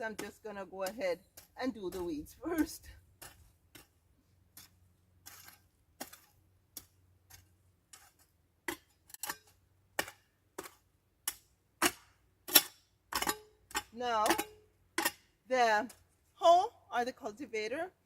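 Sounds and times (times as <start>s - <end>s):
garden tool chopping soil: 0.0s - 15.2s.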